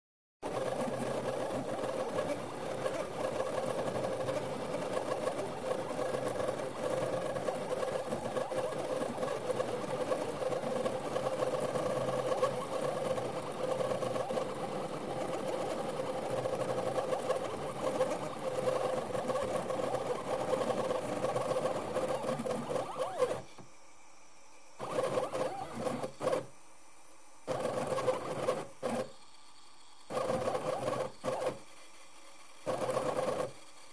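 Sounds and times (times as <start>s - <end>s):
milling machine motors humming: 0.4s - 33.9s.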